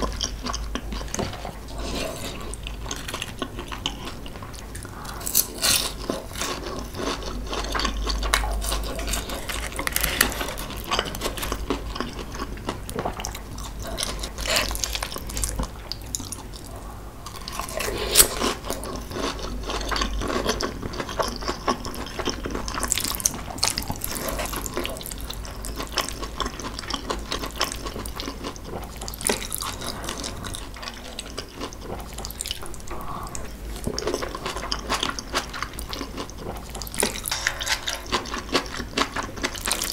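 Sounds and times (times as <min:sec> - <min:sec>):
wet chewing and mouth sounds: 0:00.0 - 0:39.9.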